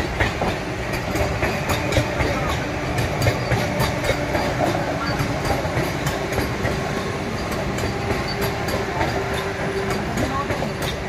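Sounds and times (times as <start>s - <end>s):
train rumble and hum: 0.0s - 11.0s
wheels clicking over rail joints: 0.0s - 11.0s.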